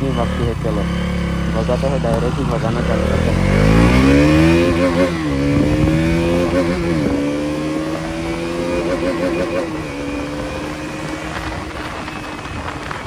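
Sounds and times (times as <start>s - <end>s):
motorcycle accelerating hard: 0.0s - 13.0s.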